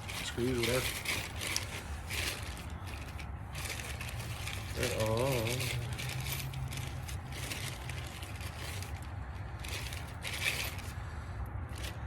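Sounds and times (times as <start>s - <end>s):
small parts rustling and scraping: 0.0s - 12.0s.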